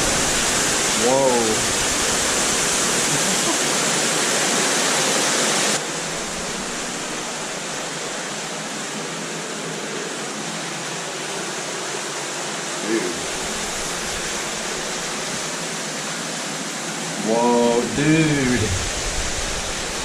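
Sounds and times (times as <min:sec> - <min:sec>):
cave stream water rushing: 0:00.0 - 0:20.0.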